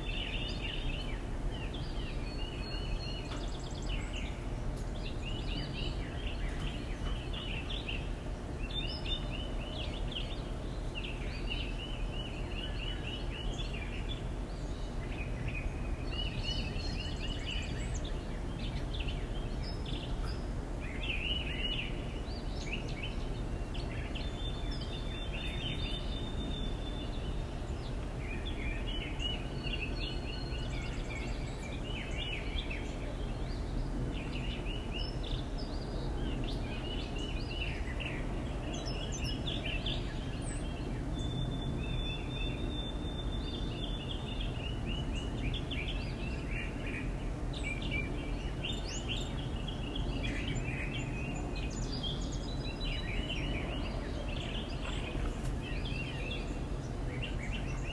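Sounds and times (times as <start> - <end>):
small birds chirping and twittering: 0.0 - 57.9.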